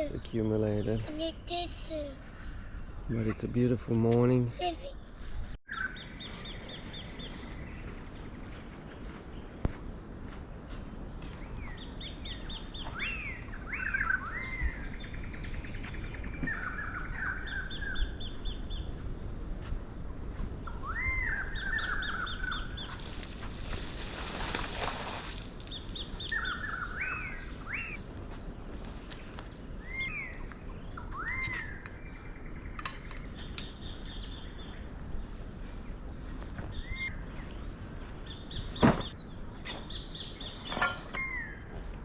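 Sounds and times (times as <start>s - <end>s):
outdoor background: 0.0s - 42.0s.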